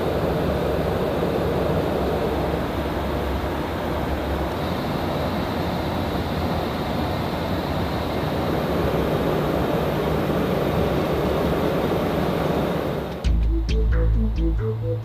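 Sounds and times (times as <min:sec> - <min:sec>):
aircraft engine and airflow noise: 0:00.0 - 0:15.0.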